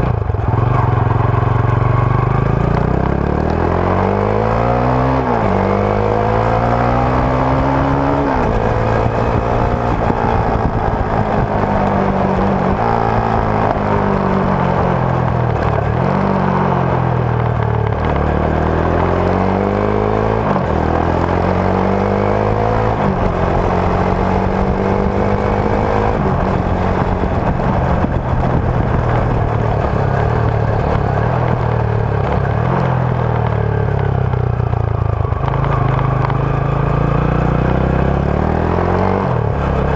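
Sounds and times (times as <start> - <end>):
motorcycle engine revving: 0.0 - 39.9
road and wind noise: 0.0 - 39.9.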